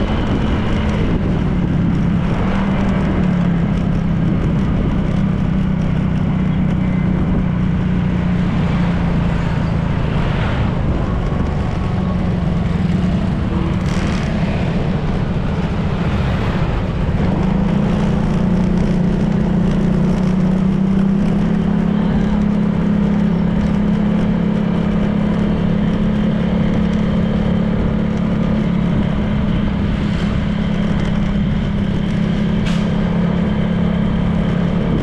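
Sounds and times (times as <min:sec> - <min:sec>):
scooter engine cruising: 0:00.0 - 0:35.0
wind and road rush: 0:00.0 - 0:35.0.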